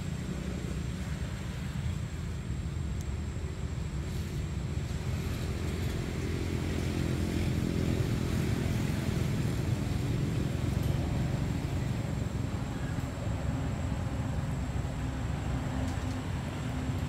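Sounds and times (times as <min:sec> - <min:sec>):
road traffic rumble: 0:00.0 - 0:17.0
vehicle engine: 0:00.0 - 0:17.0.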